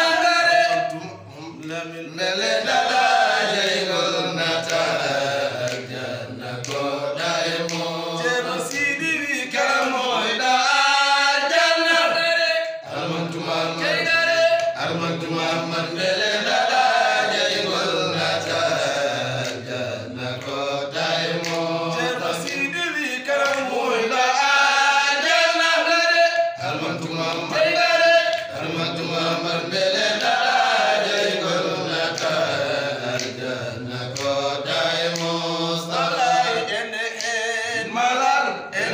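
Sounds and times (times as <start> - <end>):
men chanting a devotional song: 0.0 - 38.9.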